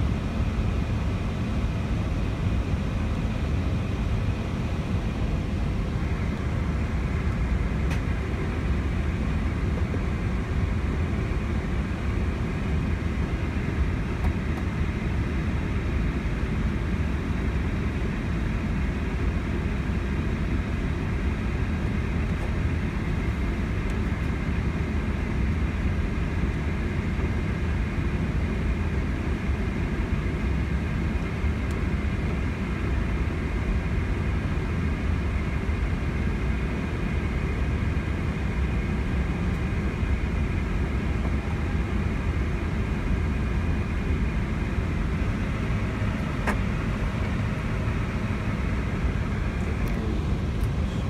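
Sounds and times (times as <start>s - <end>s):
aircraft engines idling: 0.0s - 51.0s
faint high hum: 0.0s - 51.0s.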